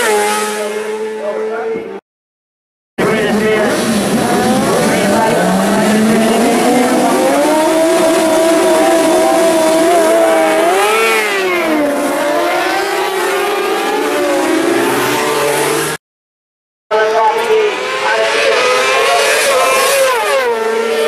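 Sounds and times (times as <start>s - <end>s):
racing motorcycles revving: 0.0s - 2.0s, 3.0s - 16.0s, 16.9s - 21.0s.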